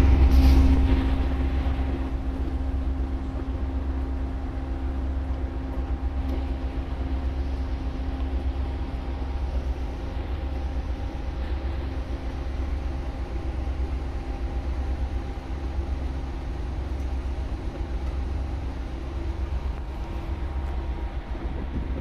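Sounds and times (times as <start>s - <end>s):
ship machinery drone: 0.0s - 22.0s.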